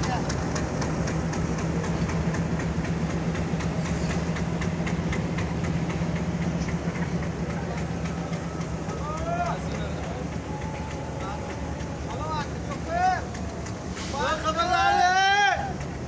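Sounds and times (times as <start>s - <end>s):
locomotive engine idling: 0.0s - 16.0s.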